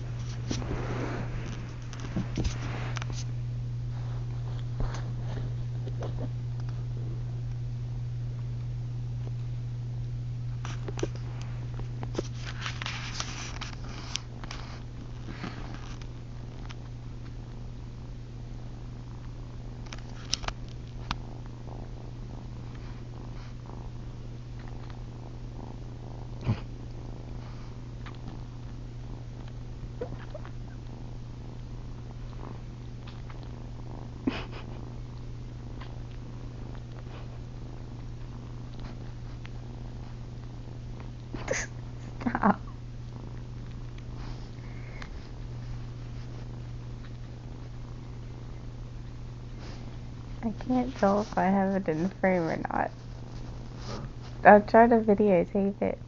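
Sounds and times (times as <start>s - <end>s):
kitten purring: 0.0s - 56.0s.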